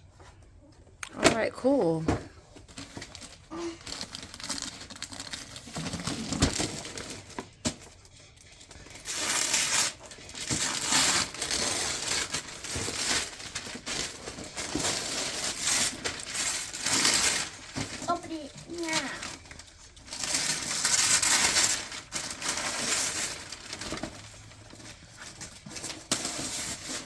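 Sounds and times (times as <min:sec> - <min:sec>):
wrapping paper crinkling and tearing: 0:02.6 - 0:27.0.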